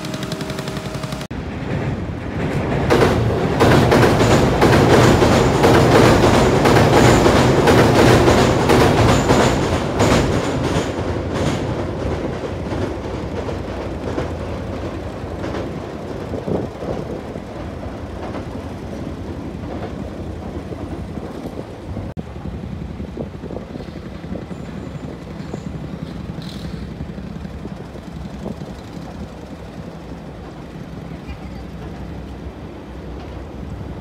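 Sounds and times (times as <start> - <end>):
train rumbling across steel bridge: 0.0 - 34.0.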